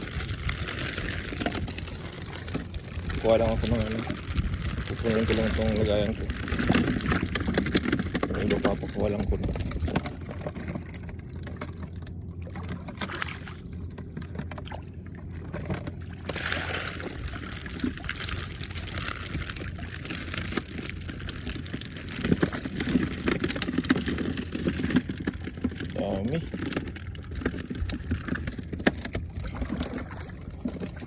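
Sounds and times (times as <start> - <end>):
water sloshing and splashing: 0.0 - 31.0.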